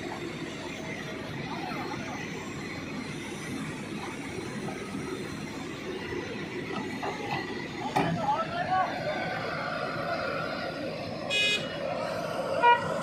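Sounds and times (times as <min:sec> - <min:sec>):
diesel engine running under load: 0:00.0 - 0:13.0
faint hydraulic whine: 0:00.0 - 0:13.0.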